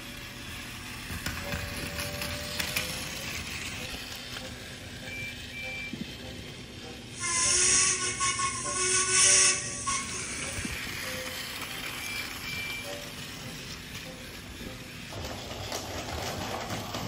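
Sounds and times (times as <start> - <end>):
toy train motor hum: 0.0 - 17.0.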